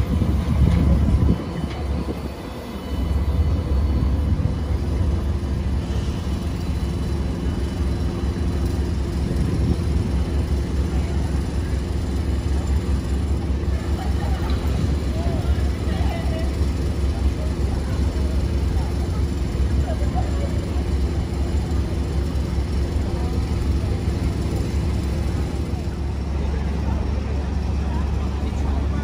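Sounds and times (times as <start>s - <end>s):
tram passing: 0.0s - 29.0s
tram rumbling: 0.0s - 29.0s.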